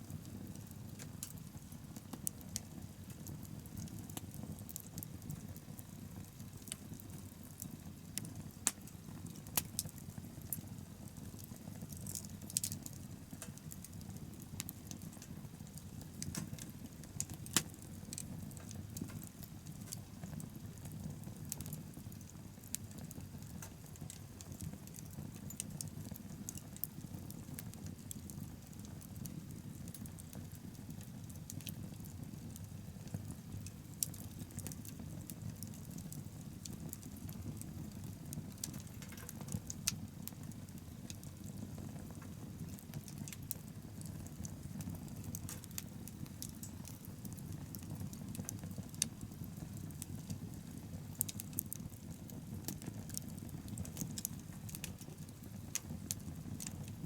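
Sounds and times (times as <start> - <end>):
burning wood crackling: 0.0 - 57.0
flames roaring low: 0.0 - 57.0.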